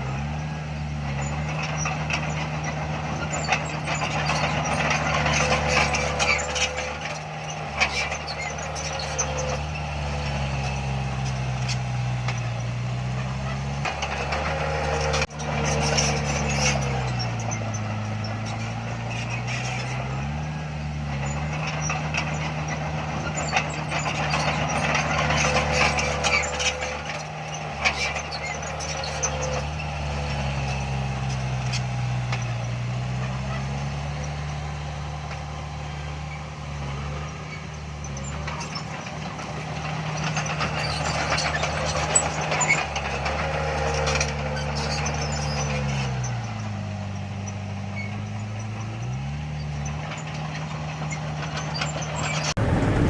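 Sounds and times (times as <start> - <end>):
heavy diesel machine engine: 0.0 - 53.0.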